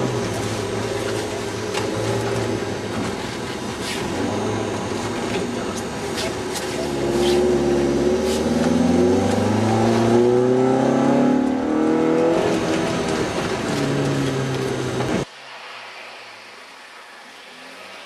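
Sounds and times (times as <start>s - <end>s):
car engine revving: 0.0s - 15.3s.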